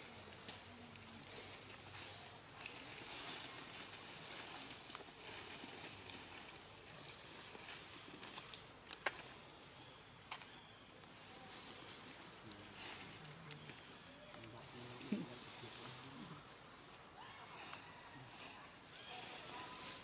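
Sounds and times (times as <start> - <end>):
dry leaves crackling: 0.0 - 20.0.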